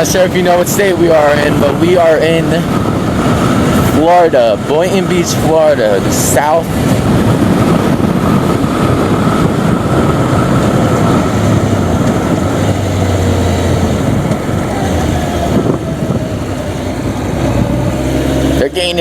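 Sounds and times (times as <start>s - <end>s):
motorcycle engine running: 0.0s - 19.0s
wind rush on microphone: 0.0s - 19.0s.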